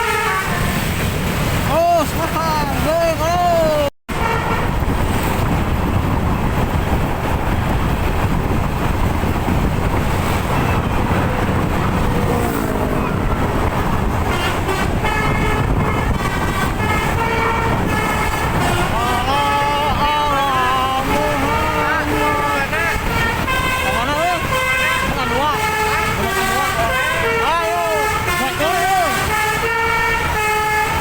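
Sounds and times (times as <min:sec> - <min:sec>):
road and engine noise: 0:00.0 - 0:31.0.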